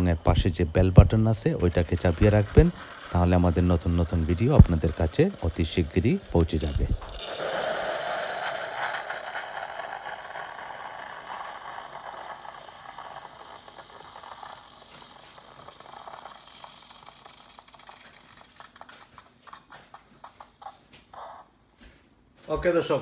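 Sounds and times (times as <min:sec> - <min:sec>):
frothed milk hissing: 0:00.0 - 0:21.7
machine sputtering: 0:01.0 - 0:21.4.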